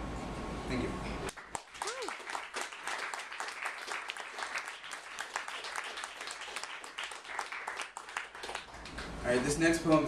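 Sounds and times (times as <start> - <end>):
small audience applauding: 1.3 - 10.0.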